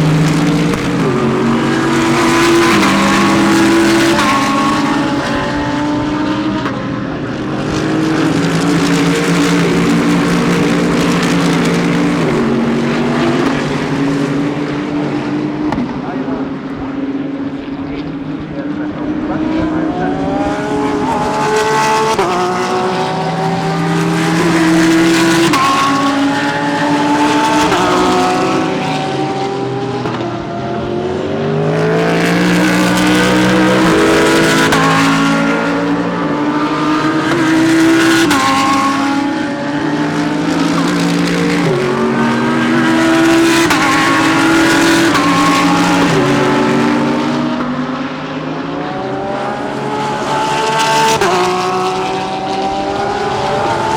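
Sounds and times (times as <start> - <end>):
race cars accelerating: 0.0 - 53.9.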